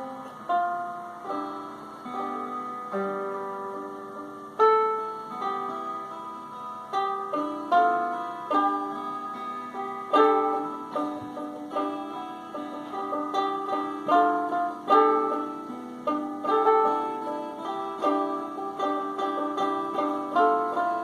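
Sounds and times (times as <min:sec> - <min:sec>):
plucked instrumental notes: 0:00.0 - 0:21.0.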